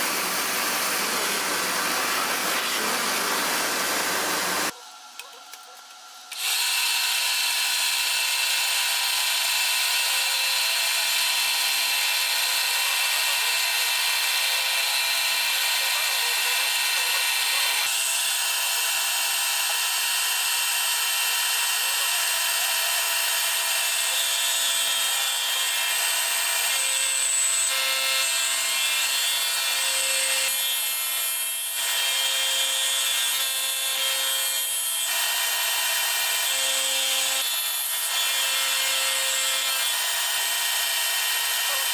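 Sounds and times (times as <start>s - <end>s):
milling machine cutting: 0.0s - 4.7s, 6.3s - 41.9s.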